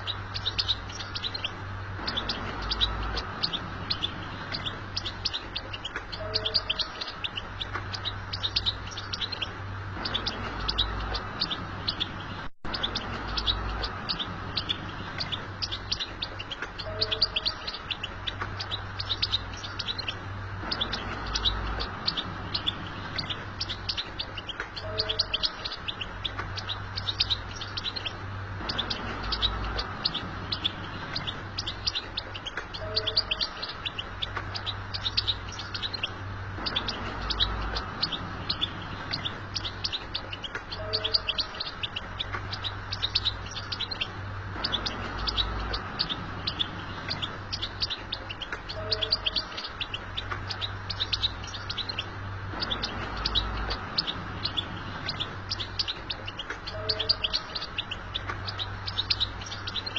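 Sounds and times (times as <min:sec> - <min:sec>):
goldfinch singing: 0:00.0 - 0:59.9.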